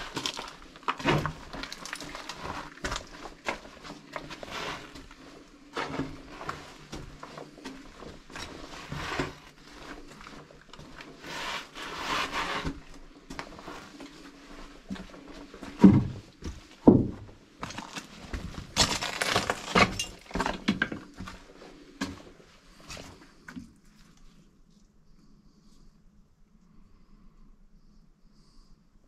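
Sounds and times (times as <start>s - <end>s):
footsteps crunching over rubble: 0.0s - 12.0s, 12.6s - 24.2s.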